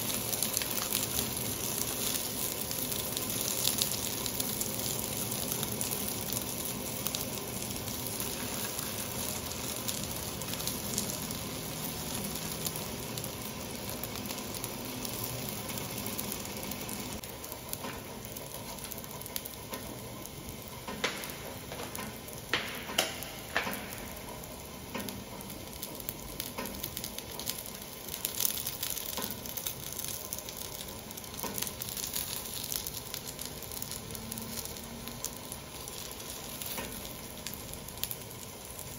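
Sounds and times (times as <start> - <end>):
sausages sizzling in frying pan: 0.0 - 38.9.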